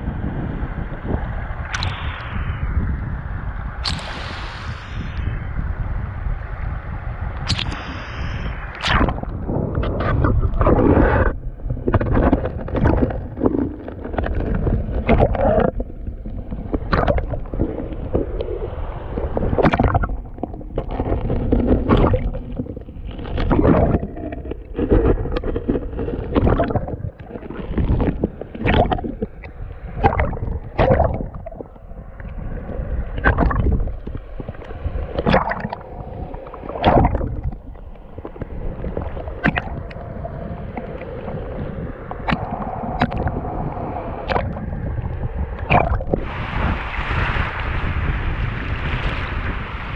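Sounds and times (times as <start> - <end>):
muffled river water gurgling: 0.0 - 49.9.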